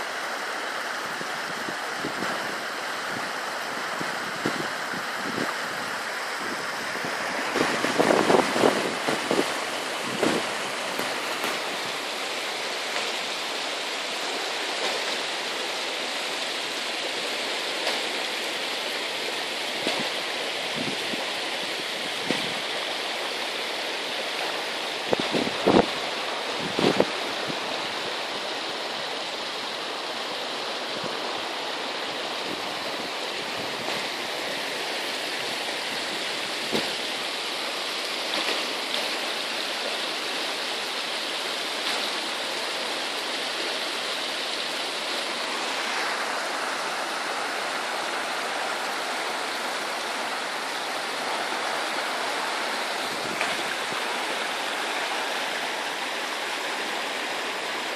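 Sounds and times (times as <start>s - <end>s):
rushing floodwater: 0.0s - 57.9s.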